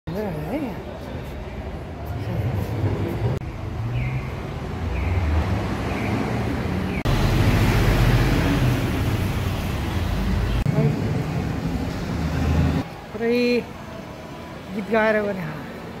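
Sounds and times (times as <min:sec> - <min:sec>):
street traffic rumble: 0:00.1 - 0:16.0.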